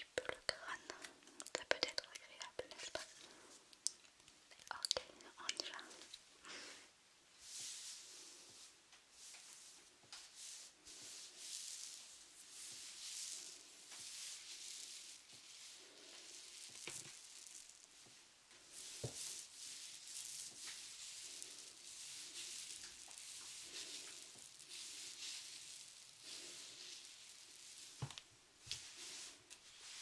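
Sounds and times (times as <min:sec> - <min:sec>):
faint close rustling: 0:00.0 - 0:30.0.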